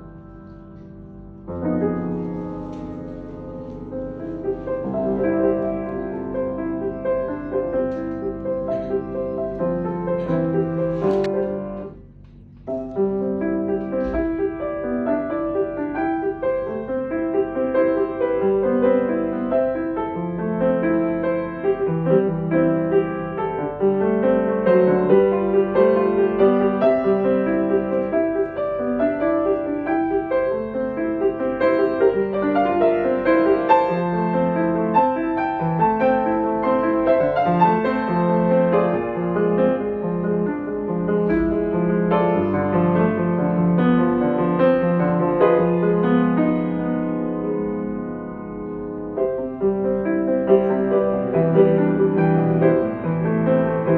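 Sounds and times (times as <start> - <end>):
slow piano music: 0.0 - 53.9.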